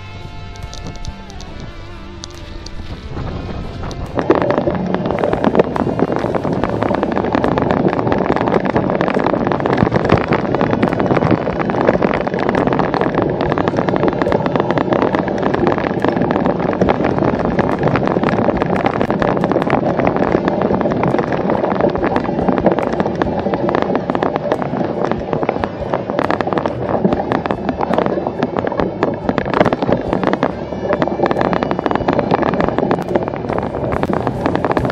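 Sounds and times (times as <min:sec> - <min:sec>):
bike rattling ticks: 0:00.0 - 0:34.9
tyres and wind rumble: 0:00.0 - 0:34.9.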